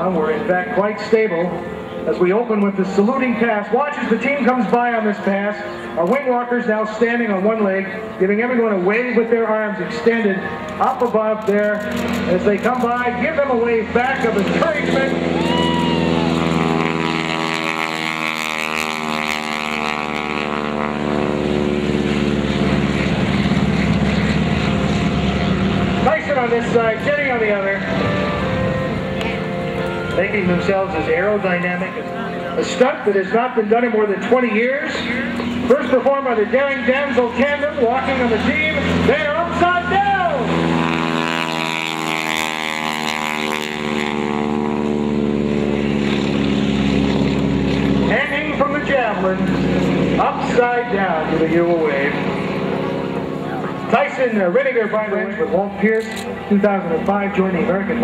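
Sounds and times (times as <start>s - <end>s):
biplane engine passing by: 0.0s - 58.0s.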